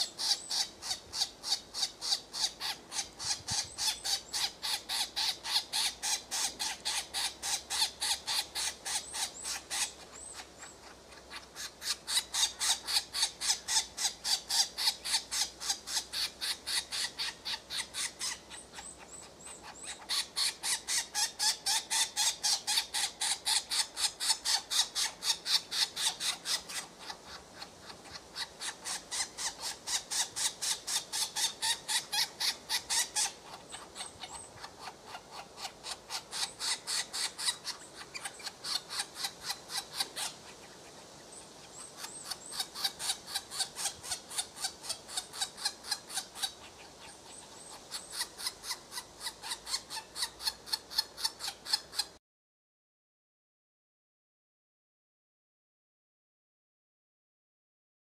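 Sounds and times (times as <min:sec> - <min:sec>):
bird chirping: 0:00.0 - 0:52.1.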